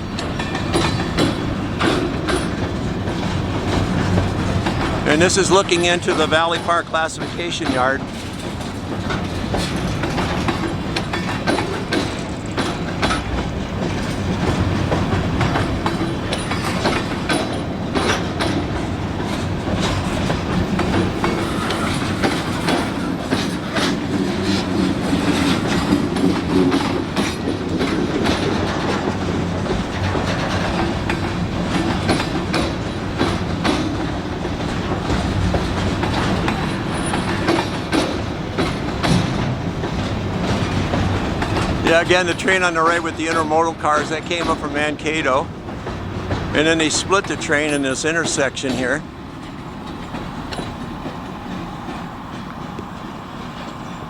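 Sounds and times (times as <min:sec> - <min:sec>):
freight train rumbling past: 0:00.0 - 0:54.0
train wheels clicking on track: 0:00.0 - 0:54.0.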